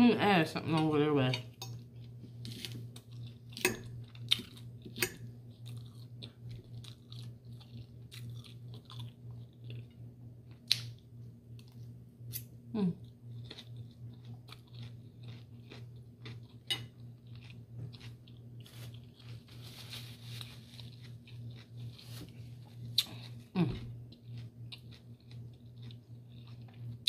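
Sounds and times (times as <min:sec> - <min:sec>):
steady low hum: 0:00.0 - 0:27.0
person chewing food: 0:01.5 - 0:27.0.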